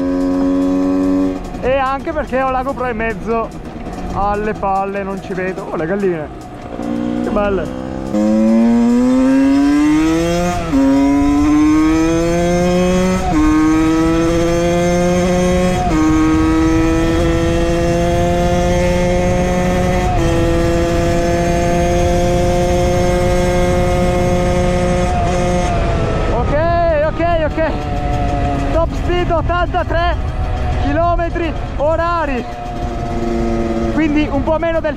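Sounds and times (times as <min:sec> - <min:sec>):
small engine accelerating: 0:02.8 - 0:34.8.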